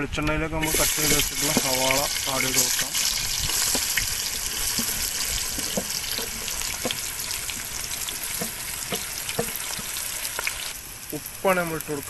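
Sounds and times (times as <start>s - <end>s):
crackles and pops: 0.6s - 12.0s
onions sizzling in oil: 0.6s - 12.0s.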